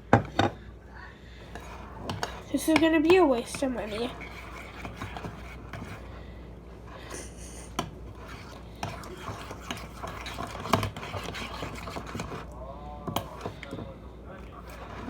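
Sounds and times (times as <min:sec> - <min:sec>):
spoon scraping slime in bowl: 0:01.5 - 0:06.2, 0:06.9 - 0:15.0.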